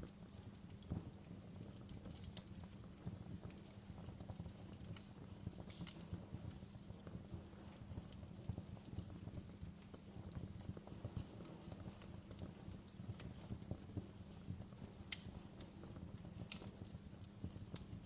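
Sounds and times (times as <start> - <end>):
wood fire crackling: 0.0 - 18.0
sharp pops of fire: 0.1 - 18.0.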